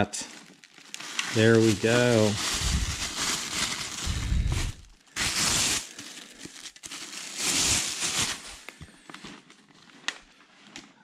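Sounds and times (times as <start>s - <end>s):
plastic bag crinkling: 0.2s - 10.1s.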